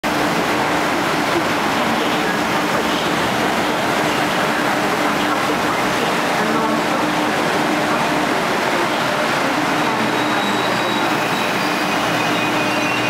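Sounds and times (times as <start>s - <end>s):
rushing train noise: 0.0s - 13.0s.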